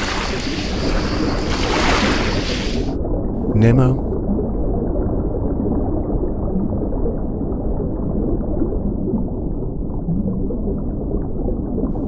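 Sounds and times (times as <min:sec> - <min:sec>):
underwater rumble and gurgle: 0:00.0 - 0:12.0.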